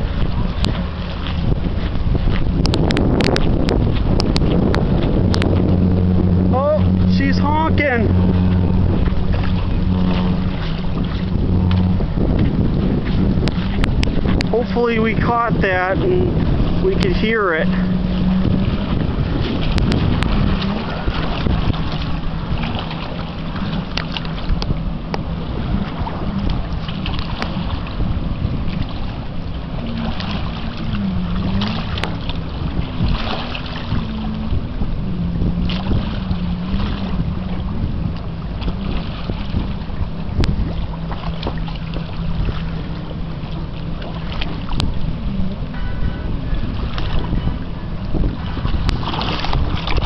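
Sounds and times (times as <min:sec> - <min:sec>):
low engine drone: 0:00.0 - 0:50.0
wind buffeting microphone: 0:00.0 - 0:50.0.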